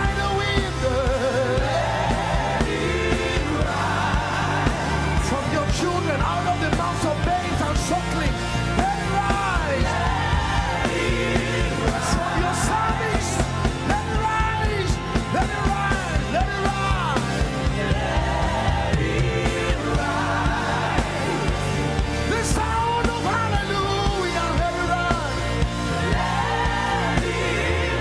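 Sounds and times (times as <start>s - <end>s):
bass line: 0.0s - 28.0s.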